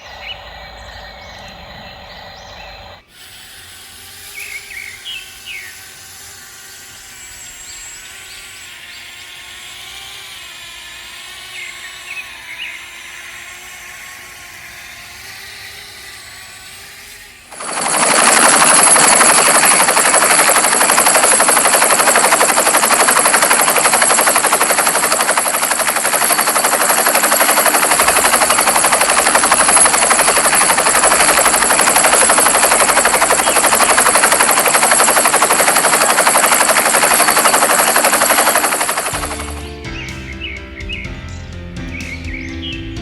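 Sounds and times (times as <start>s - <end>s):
toy helicopter rotor buzzing: 0.0s - 40.4s.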